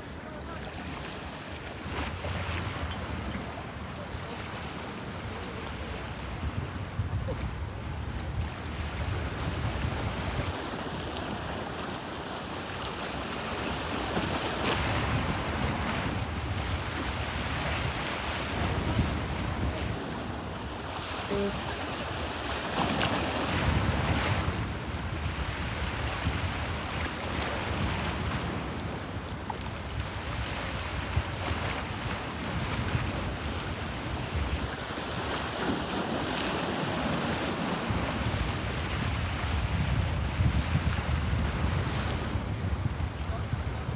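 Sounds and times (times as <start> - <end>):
wind buffeting the microphone: 0.0 - 12.1, 13.2 - 43.9
sea waves washing against shore: 8.5 - 43.9.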